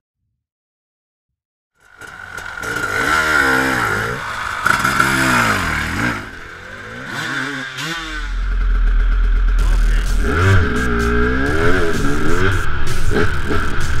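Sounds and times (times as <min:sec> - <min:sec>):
motorcycle engine revving: 0:01.8 - 0:14.0.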